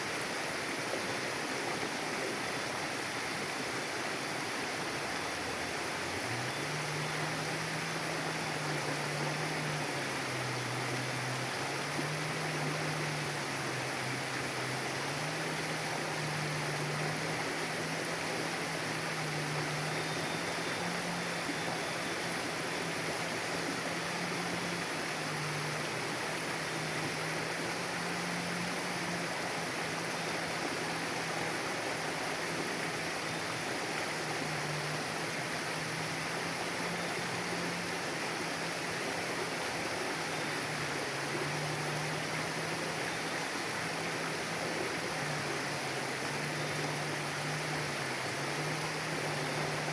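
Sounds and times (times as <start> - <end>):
mountain river rushing: 0.0 - 49.9.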